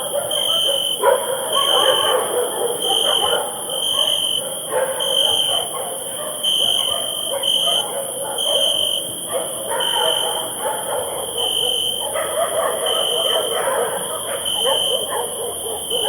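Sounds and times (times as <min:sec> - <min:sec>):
crickets chirping: 0:00.0 - 0:16.0
dogs barking: 0:00.0 - 0:16.0
high insect hiss: 0:00.0 - 0:16.0.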